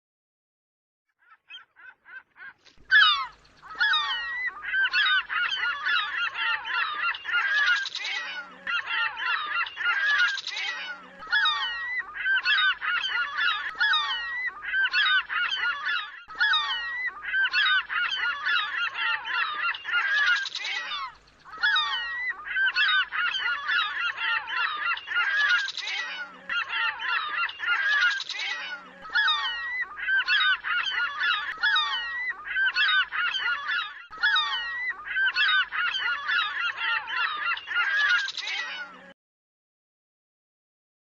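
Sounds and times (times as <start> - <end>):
water birds honking: 1.8 - 39.1.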